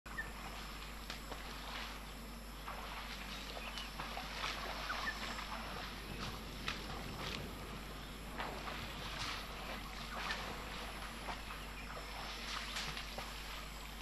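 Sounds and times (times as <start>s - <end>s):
elephant splashing in water: 0.2s - 14.0s.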